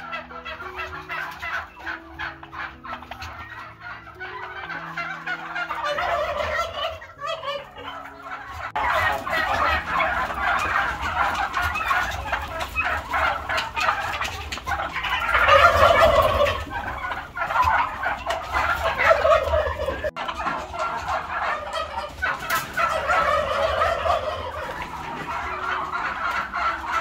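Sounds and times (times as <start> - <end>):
turkeys calling: 0.0 - 27.0.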